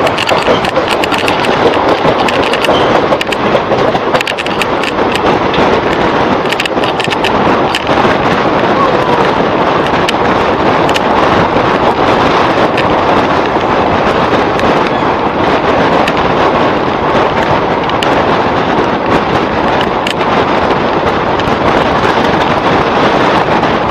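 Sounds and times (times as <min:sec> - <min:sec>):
train wind rush and rumble: 0:00.0 - 0:23.9
wheels clattering on rails: 0:00.0 - 0:23.9.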